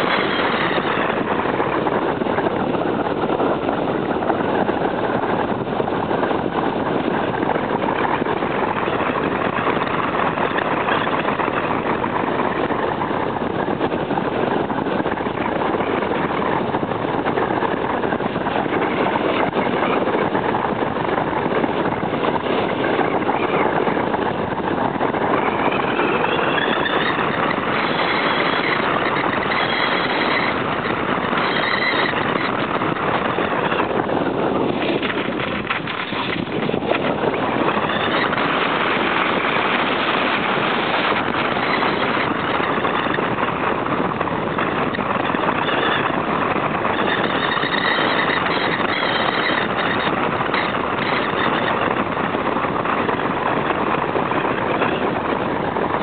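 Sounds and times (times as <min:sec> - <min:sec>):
airflow rushing over camera: 0:00.0 - 0:56.0.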